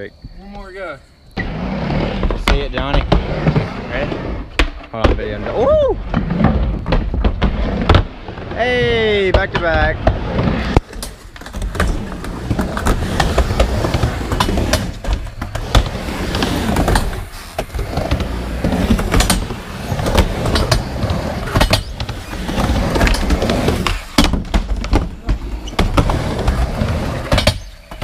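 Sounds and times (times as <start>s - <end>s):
skateboard wheels rumbling: 0.6s - 28.0s
skateboards clacking against ramp: 2.2s - 28.0s.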